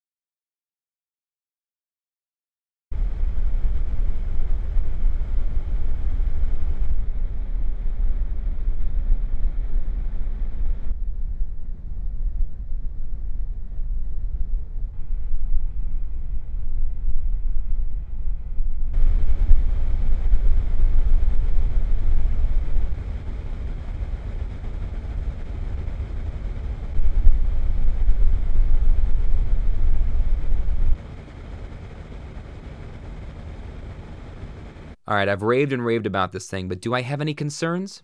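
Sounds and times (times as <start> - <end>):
electric fan running: 3.0 - 35.0.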